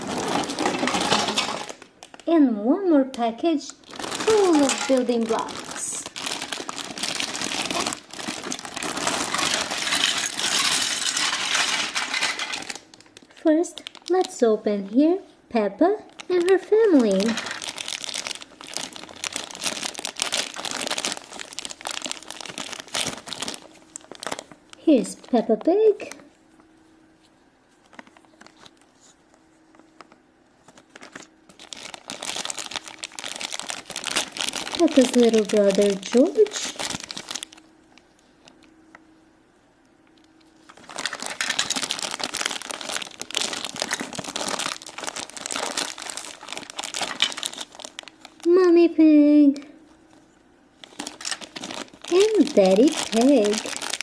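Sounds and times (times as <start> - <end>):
plastic packaging crinkling: 0.0 - 2.3, 3.2 - 14.6, 16.0 - 39.0, 40.0 - 48.7, 49.9 - 54.0.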